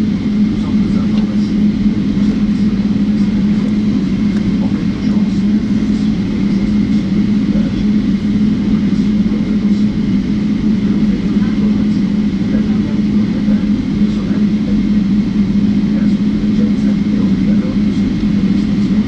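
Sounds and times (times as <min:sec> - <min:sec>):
aircraft cabin hum: 0:00.0 - 0:19.0.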